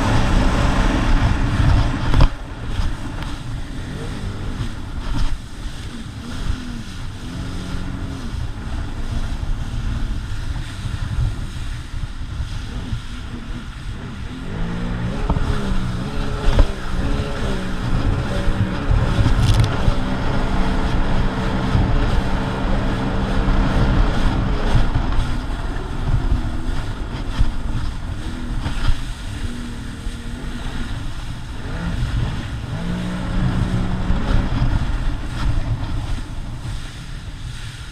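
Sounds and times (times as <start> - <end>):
watercraft engine revving: 0.0 - 37.9
wind noise on microphone: 0.0 - 37.9.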